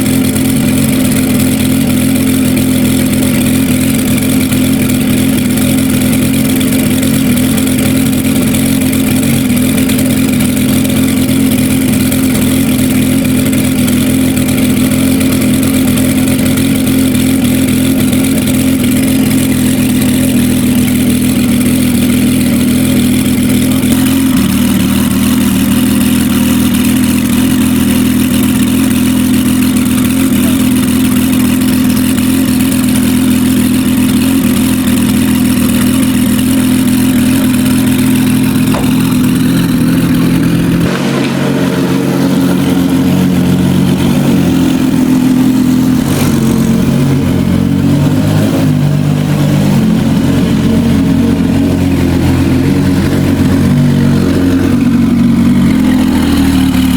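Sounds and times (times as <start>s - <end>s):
sports car engine idling loudly: 0.0s - 56.9s.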